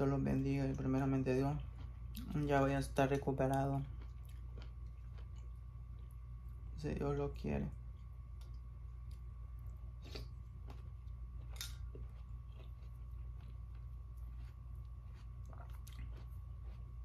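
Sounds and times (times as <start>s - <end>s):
steady low hum: 0.0s - 17.0s
person chewing: 0.7s - 2.6s, 3.4s - 6.6s, 7.9s - 17.0s.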